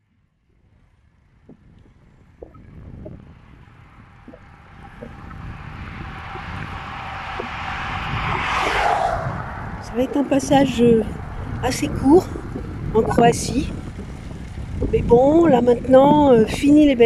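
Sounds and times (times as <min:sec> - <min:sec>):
road rumble: 0:00.0 - 0:17.0
wind noise: 0:00.0 - 0:17.0
car approaching: 0:00.6 - 0:17.0.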